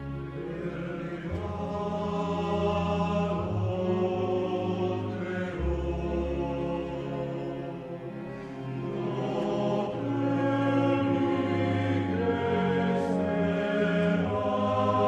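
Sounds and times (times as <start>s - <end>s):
chant-like choir voices: 0.0s - 15.0s.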